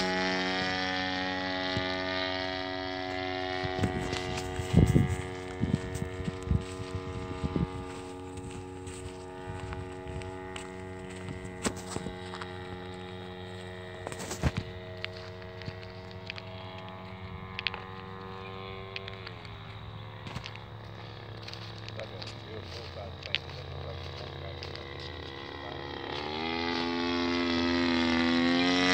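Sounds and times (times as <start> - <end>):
model airplane engine droning: 0.0 - 28.9.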